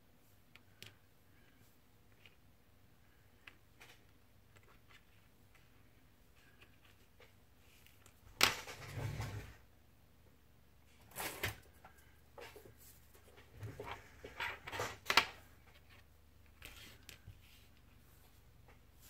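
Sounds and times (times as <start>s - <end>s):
rustling and scraping: 0.3s - 9.7s, 10.9s - 19.0s.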